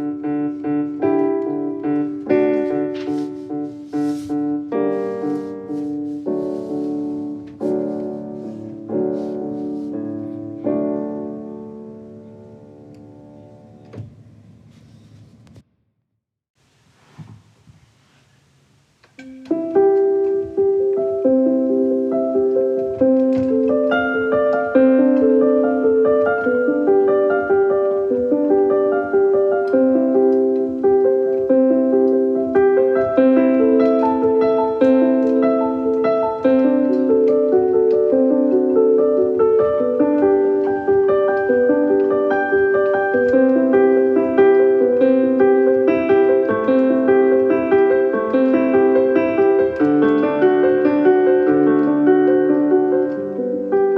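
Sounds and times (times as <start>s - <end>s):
piano music: 0.0s - 14.6s, 19.2s - 53.9s.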